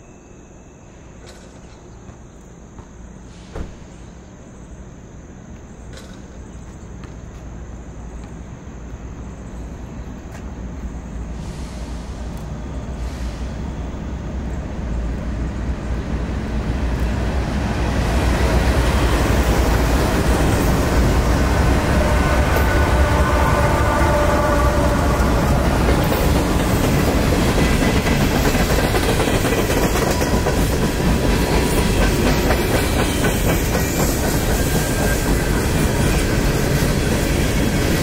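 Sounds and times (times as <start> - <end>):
diesel freight train approaching: 0.0 - 38.0.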